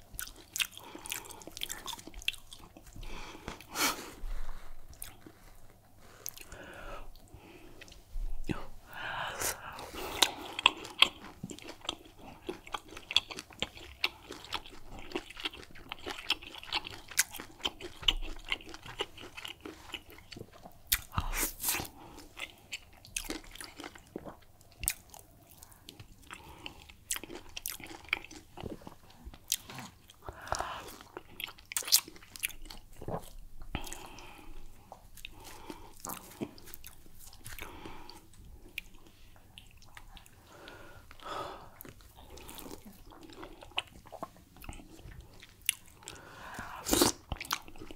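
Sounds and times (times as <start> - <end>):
wet chewing and lip smacks: 0.1 - 3.7, 10.1 - 34.2, 34.8 - 40.4, 41.8 - 46.2, 46.8 - 47.9.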